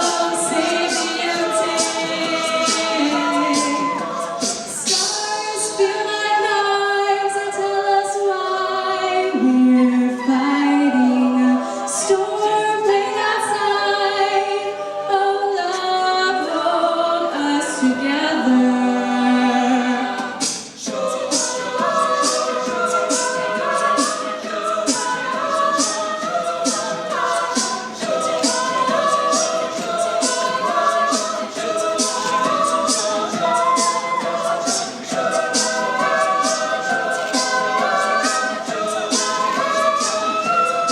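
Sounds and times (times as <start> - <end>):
a cappella group singing: 0.0 - 40.9.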